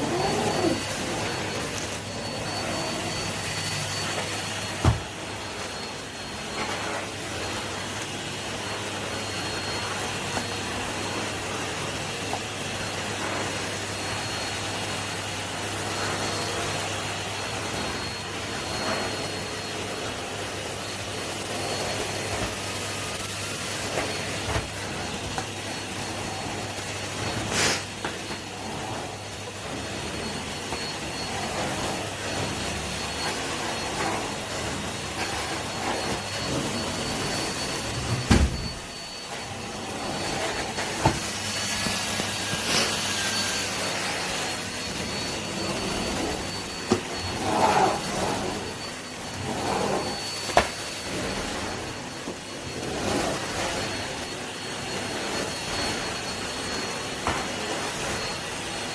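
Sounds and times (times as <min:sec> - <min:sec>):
vacuum cleaner with high whine: 0:00.0 - 0:58.9.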